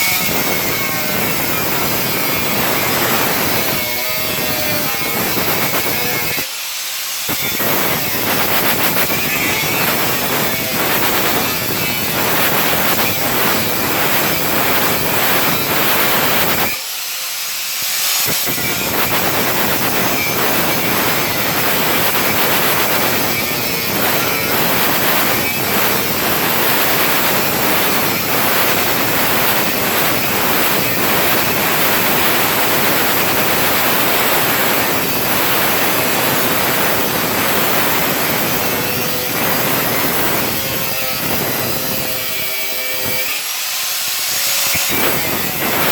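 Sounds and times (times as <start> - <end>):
angle grinder cutting metal: 0.0 - 45.9.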